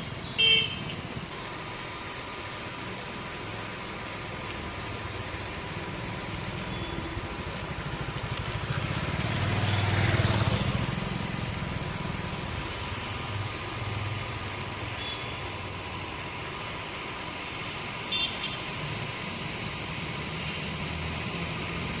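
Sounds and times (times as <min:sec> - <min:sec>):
high-pressure spray jet hissing: 0:00.0 - 0:22.0
sprayer pump engine running: 0:01.2 - 0:22.0.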